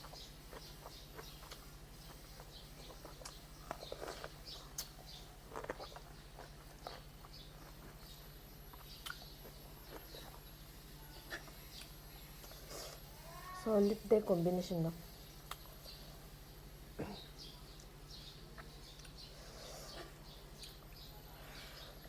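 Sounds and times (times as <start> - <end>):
birds eating clicks and chewing: 0.0 - 22.0
small birds chirping: 0.0 - 22.0
steady low hum: 0.0 - 22.0.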